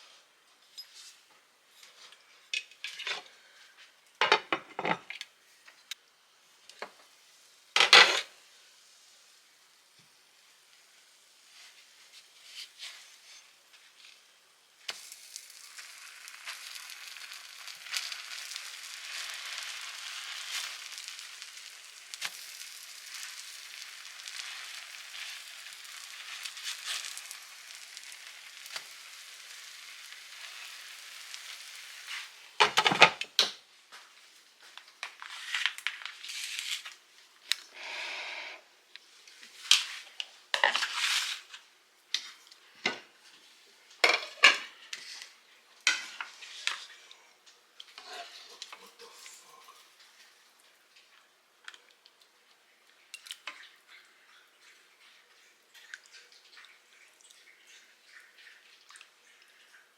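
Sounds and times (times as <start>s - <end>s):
food sizzling in a frying pan: 1.9s - 51.6s.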